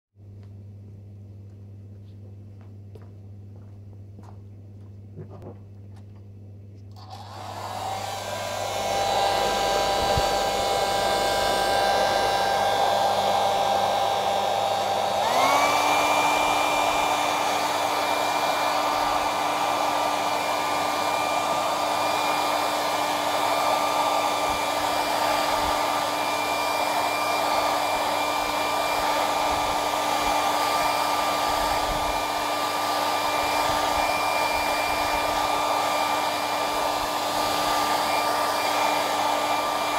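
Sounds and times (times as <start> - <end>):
hot-air blower whooshing with motor whine: 6.8 - 39.9.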